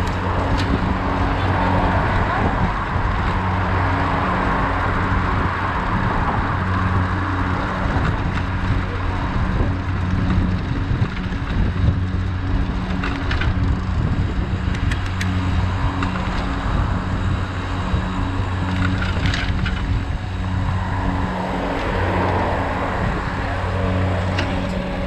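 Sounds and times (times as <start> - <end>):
bike rattles and clicks: 0.0 - 25.0
low engine hum: 0.0 - 25.0
road noise: 0.0 - 25.0
wind on microphone: 0.0 - 25.0.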